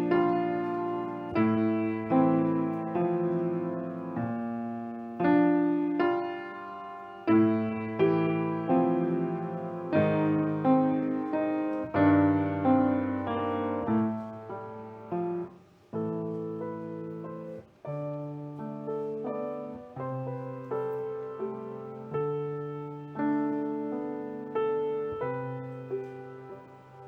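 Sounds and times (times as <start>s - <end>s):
solo piano playing slow piece: 0.0s - 27.0s.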